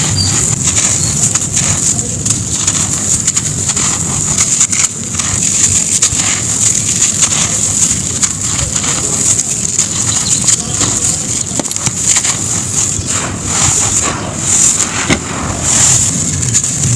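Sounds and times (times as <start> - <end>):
sand cement crunching on floor: 0.0 - 16.9.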